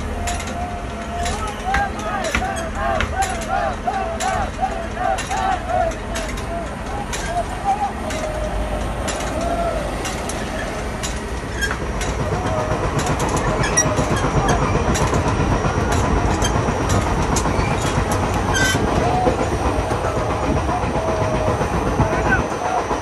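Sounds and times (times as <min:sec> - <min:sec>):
train rumbling: 0:00.0 - 0:23.0
wheels clacking over rail joints: 0:00.0 - 0:23.0.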